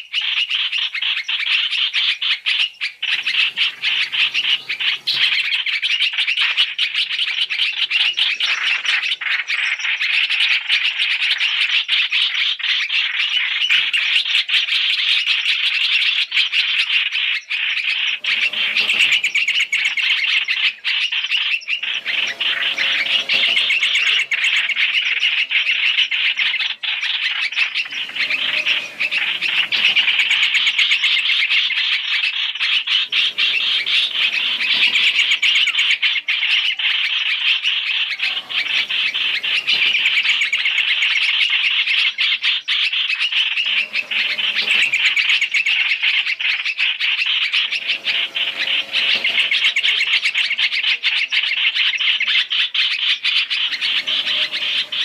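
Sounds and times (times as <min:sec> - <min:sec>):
birds chirping chatter: 0:00.0 - 0:55.0.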